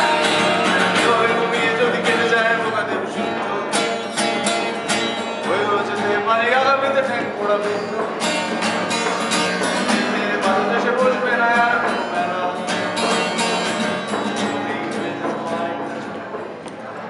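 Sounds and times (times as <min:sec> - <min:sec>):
young man singing: 0:00.0 - 0:16.2
acoustic guitar strumming: 0:00.0 - 0:17.0.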